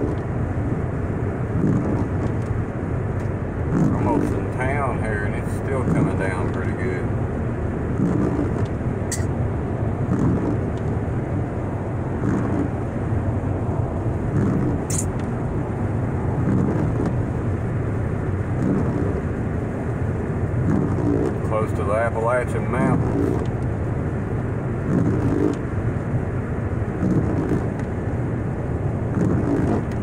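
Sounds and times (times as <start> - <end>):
car driving interior rumble: 0.0 - 30.0.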